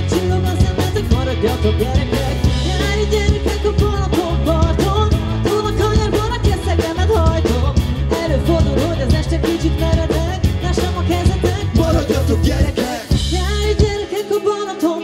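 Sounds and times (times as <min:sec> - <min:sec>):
pop-rock band playing: 0:00.0 - 0:15.0
woman singing: 0:00.0 - 0:15.0.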